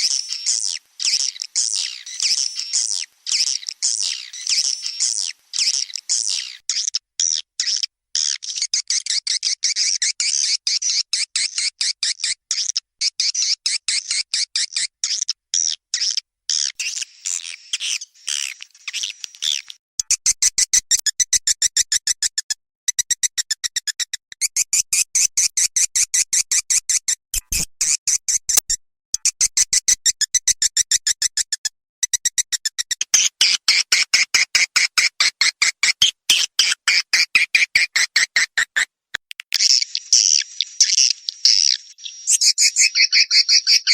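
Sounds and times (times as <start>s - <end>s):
high clicking bird chirps: 0.0s - 43.9s.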